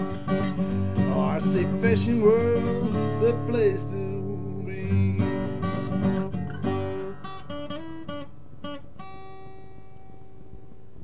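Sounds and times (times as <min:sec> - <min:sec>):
acoustic guitar strummed chords: 0:00.0 - 0:10.2.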